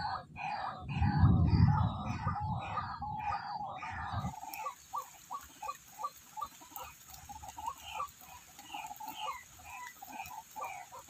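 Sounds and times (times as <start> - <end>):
bird clucking calls: 0.0 - 11.0.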